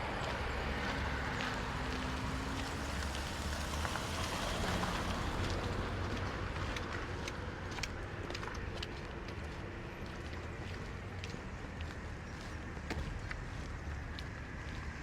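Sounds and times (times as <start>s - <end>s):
traffic rumble with wet hiss: 0.0s - 15.0s.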